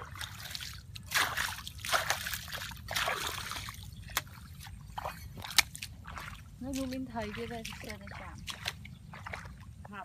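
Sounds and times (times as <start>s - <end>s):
stick splashing muddy water: 0.0s - 9.7s.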